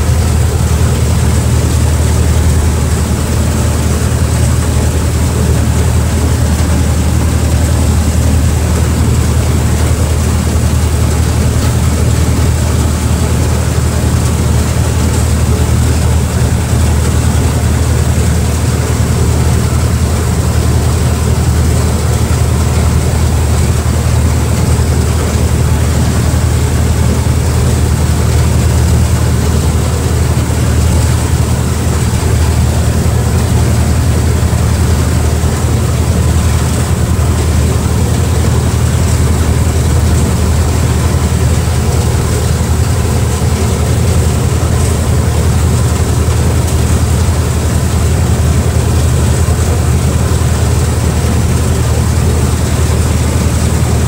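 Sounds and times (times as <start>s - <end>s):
speedboat engine droning: 0.0s - 54.0s
water rushing past hull: 0.0s - 54.0s
wind: 0.0s - 54.0s.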